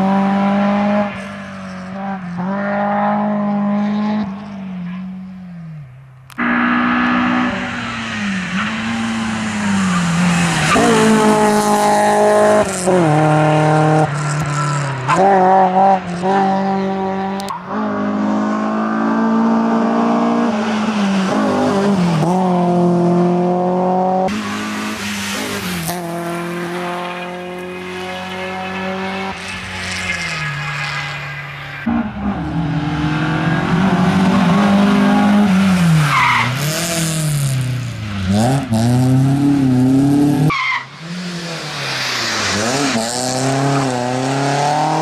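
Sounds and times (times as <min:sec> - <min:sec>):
rally car engine revving: 0:00.0 - 0:05.3, 0:06.3 - 0:45.0.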